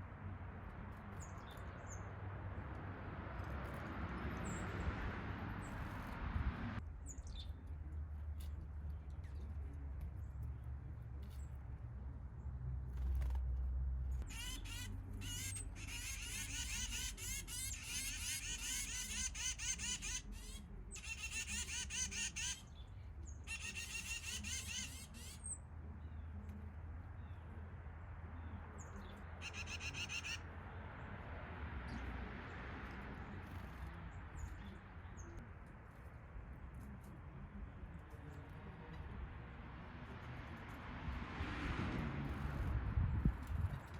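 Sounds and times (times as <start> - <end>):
songbirds chirping and squawking: 0.0 - 40.9.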